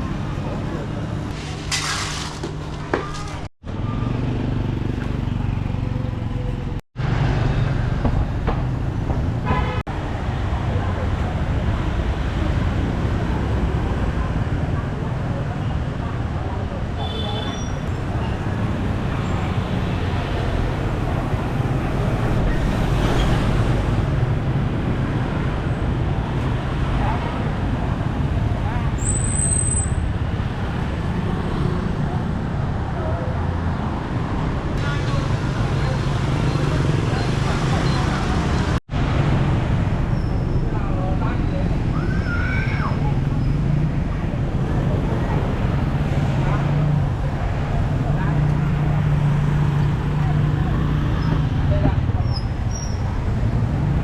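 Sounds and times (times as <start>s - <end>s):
street traffic engines: 0.0s - 54.0s.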